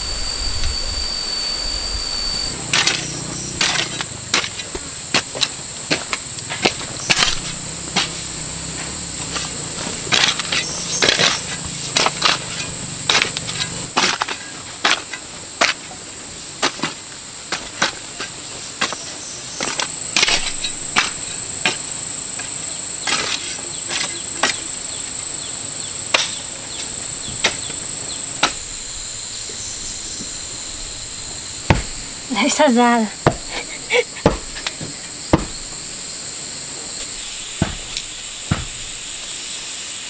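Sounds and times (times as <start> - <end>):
insects droning: 0.0 - 40.0.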